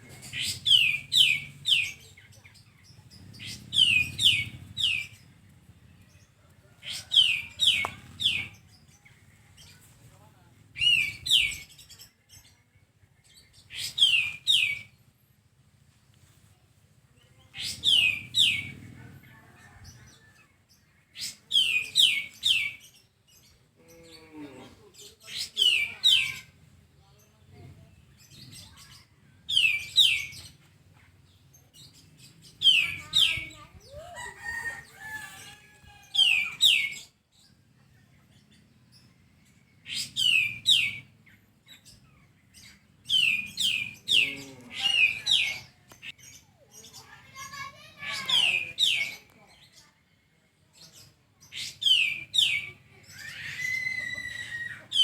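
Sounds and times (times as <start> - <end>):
bird singing high phrases: 0.0 - 6.1, 6.8 - 10.0, 10.8 - 15.1, 17.2 - 18.9, 20.2 - 24.1, 27.9 - 30.6, 31.4 - 55.0.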